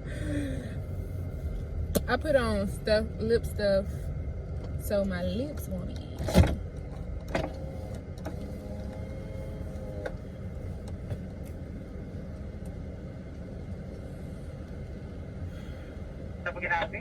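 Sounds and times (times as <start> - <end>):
car engine rumble inside cabin: 0.0 - 17.0.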